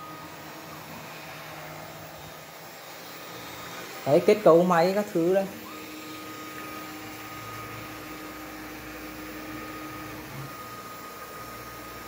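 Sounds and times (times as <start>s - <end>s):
milling machine whine: 0.0s - 12.0s.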